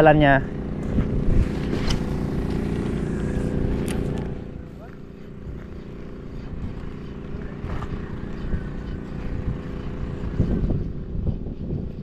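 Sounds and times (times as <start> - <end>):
low motor drone: 0.0 - 12.0
wind buffeting microphone: 0.2 - 12.0.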